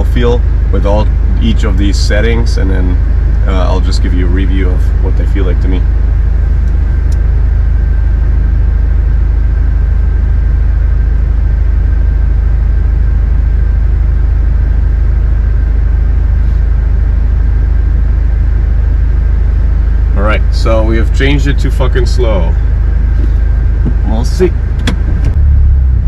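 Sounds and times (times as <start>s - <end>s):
car engine idling: 0.0s - 26.0s
faint steady whine: 0.0s - 26.0s.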